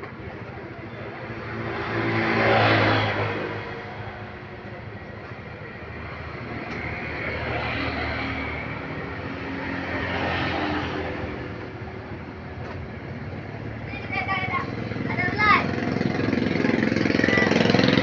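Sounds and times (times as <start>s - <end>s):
heavy vehicle passing: 0.7s - 18.0s.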